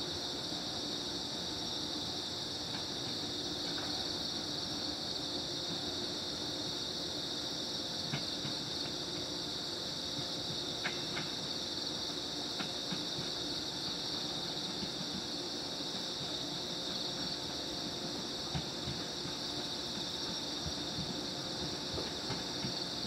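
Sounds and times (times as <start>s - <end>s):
electric train faint hum: 0.0s - 23.0s
night insects chorus: 0.0s - 23.0s.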